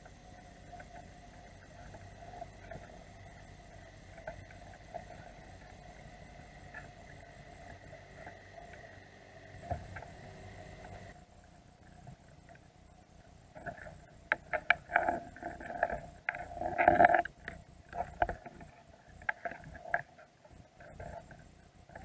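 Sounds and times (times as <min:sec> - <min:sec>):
crabs clicking and scraping underwater: 0:00.0 - 0:22.0.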